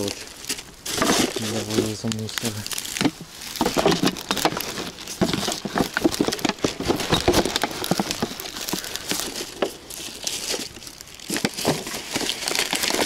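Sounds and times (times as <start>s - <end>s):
footsteps crunching on dry reeds: 0.0s - 13.0s
plastic bottles and bag crinkling: 0.0s - 13.0s.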